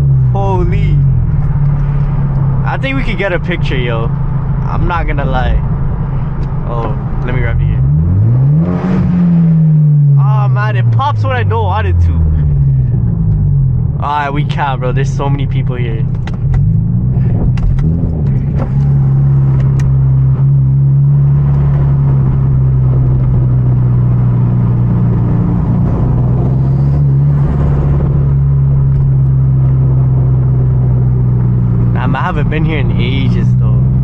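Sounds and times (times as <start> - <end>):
car engine droning at cruise: 0.0 - 34.0.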